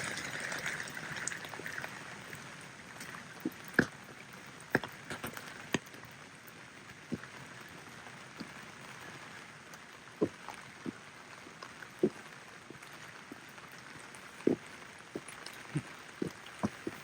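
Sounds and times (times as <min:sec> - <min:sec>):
large raindrops ticking: 0:00.0 - 0:17.0
light rain hiss: 0:00.0 - 0:17.0.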